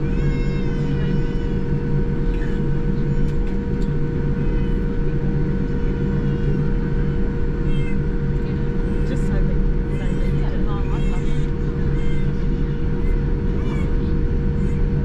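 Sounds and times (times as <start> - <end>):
airplane cabin rumble: 0.0 - 15.0
constant whine: 0.0 - 15.0.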